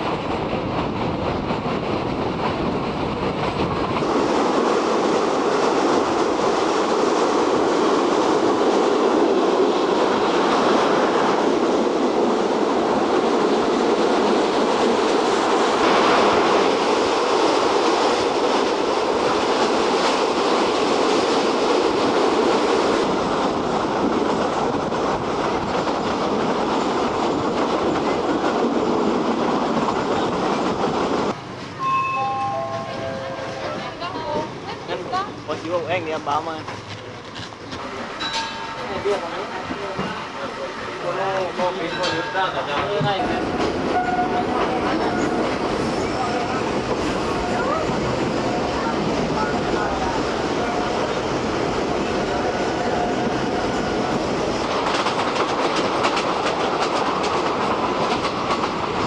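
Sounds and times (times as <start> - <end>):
train wheels rattling on rails: 0.0 - 59.0.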